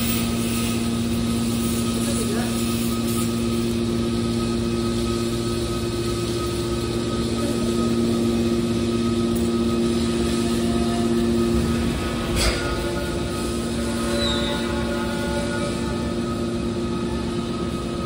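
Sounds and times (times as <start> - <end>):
hydraulic power unit humming: 0.0 - 18.0.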